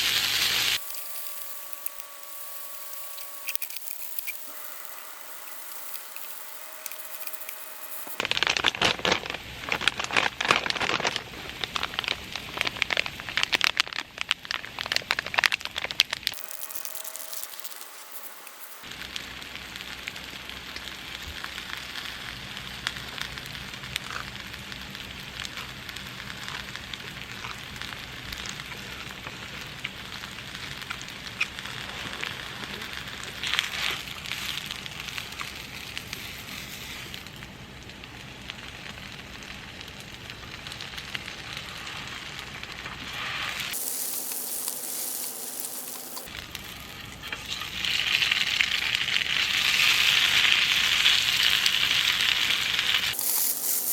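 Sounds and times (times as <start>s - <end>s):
food sizzling in a pan: 0.0s - 8.5s, 15.7s - 53.9s.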